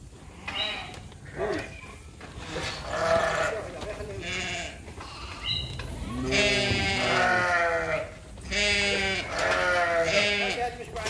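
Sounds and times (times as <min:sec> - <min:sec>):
sheep bleating: 0:00.3 - 0:01.7, 0:02.4 - 0:10.8.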